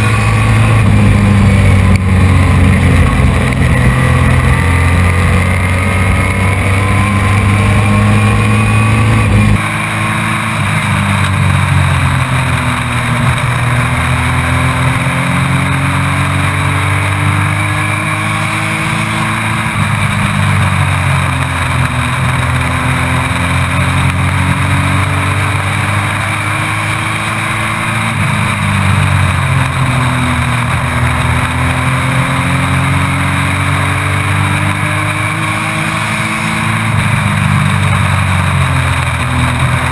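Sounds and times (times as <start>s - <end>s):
race truck engine revving: 0.0s - 39.9s
wind and road noise: 0.0s - 39.9s.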